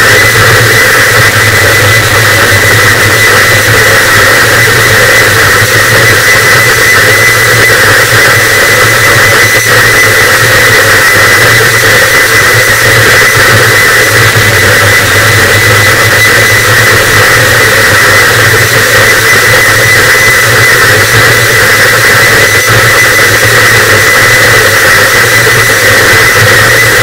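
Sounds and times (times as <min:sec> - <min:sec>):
distorted static noise wall: 0:00.0 - 0:27.0.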